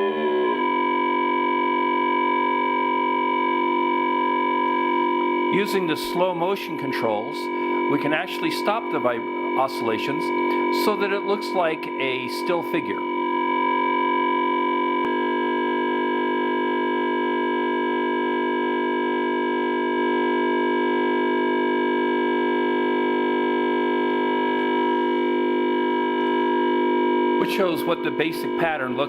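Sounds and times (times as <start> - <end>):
electronic oscillator drone: 0.0 - 29.0.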